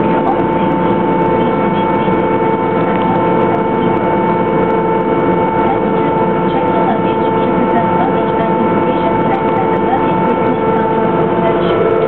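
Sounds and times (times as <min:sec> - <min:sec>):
dense rushing hum: 0:00.0 - 0:12.0
gas turbine whine: 0:00.0 - 0:12.0.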